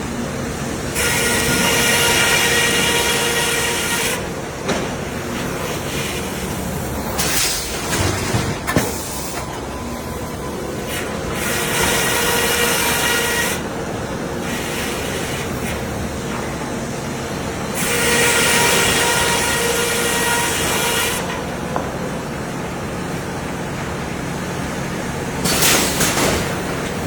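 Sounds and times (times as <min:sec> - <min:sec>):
sawmill machinery running: 0:00.0 - 0:27.0.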